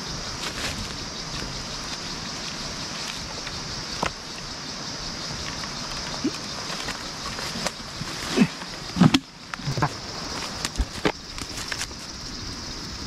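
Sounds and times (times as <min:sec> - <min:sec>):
high insect drone: 0:00.0 - 0:13.0
rustling leaves: 0:00.0 - 0:13.0
stream rushing hiss: 0:00.0 - 0:13.0.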